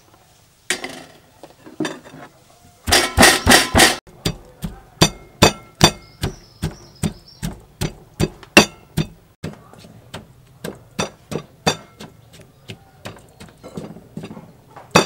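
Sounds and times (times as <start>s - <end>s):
stone pestle pounding in mortar: 2.9s - 15.0s.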